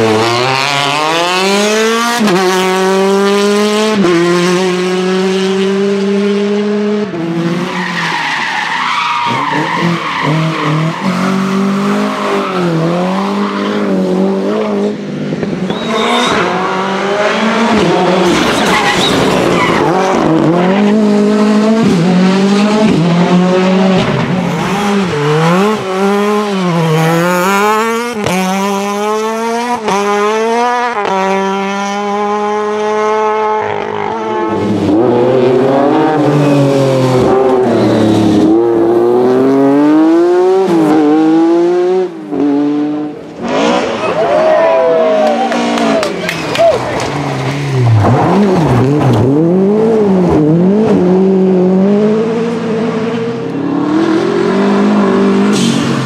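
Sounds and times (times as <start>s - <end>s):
rally car engines revving hard: 0.0s - 56.0s.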